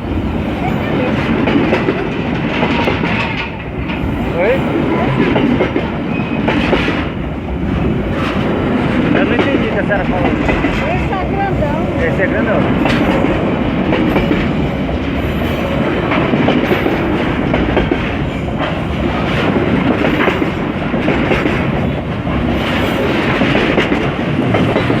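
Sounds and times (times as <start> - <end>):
freight train wheels clacking: 0.0 - 25.0.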